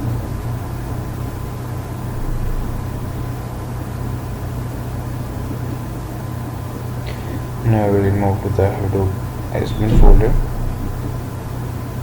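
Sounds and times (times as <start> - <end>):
steady low hum: 0.0 - 5.8, 6.7 - 12.0.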